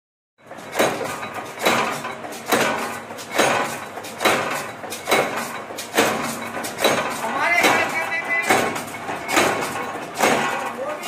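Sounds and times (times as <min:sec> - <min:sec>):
power press metallic clanking: 0:00.4 - 0:11.0.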